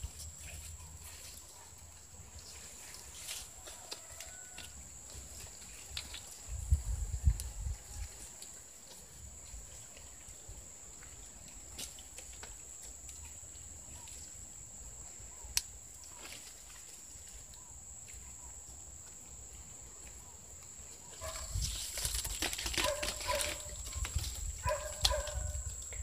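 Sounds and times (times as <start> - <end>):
palm fronds rustling: 0.0 - 14.6, 15.2 - 26.0.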